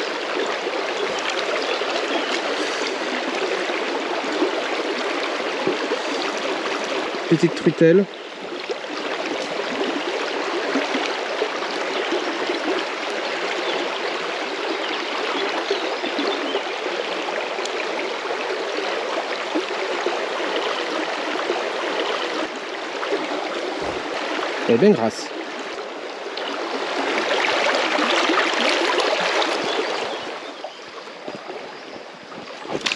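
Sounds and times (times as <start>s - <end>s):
river rippling over stones: 0.0s - 32.9s.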